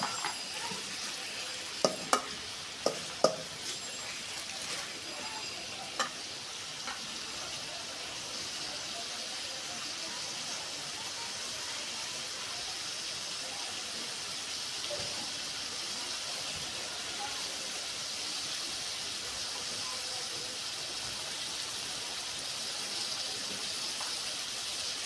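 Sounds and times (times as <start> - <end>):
liver sizzling in a pan: 0.0 - 25.0.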